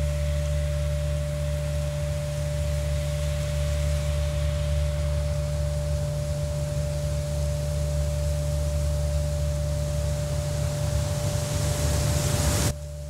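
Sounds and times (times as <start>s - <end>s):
low hum drone: 0.0s - 13.0s
soft hiss: 0.0s - 13.0s.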